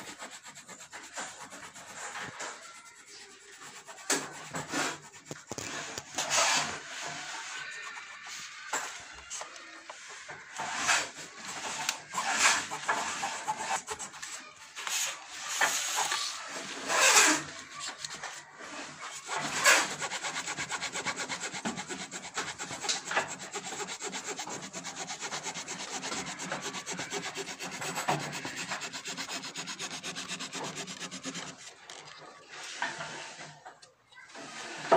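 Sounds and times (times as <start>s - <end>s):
hand tool scraping wood: 0.0s - 8.9s, 10.5s - 33.6s.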